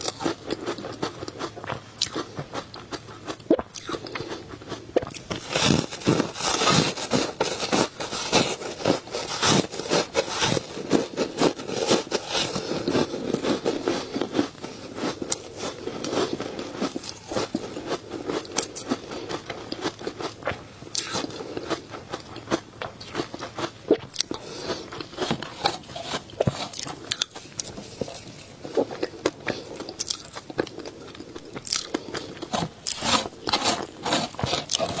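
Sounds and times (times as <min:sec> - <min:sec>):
crunching and chewing ice: 0:00.0 - 0:35.0.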